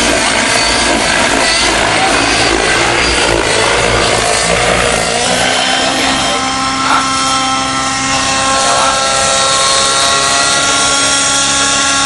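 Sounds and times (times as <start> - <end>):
model helicopter engine whine: 0.0 - 12.0.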